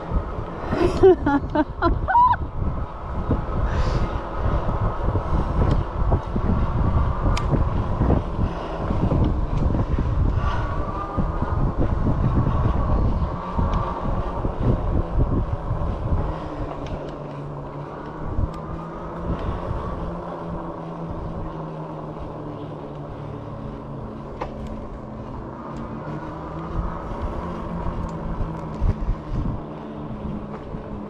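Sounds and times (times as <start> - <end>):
electric motor hum: 0.0 - 31.0
wind and road rumble: 0.0 - 31.0.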